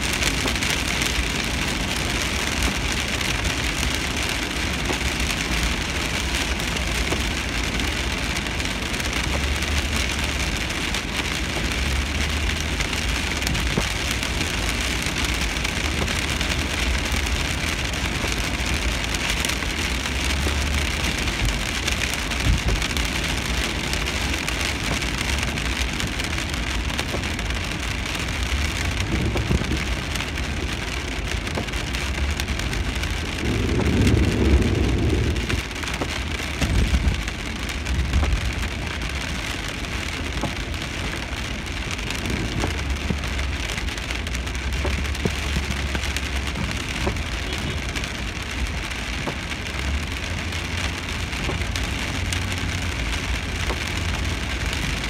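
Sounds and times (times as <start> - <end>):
rain on car windscreen: 0.0 - 55.0
tyres rumbling on wet road: 0.0 - 55.0.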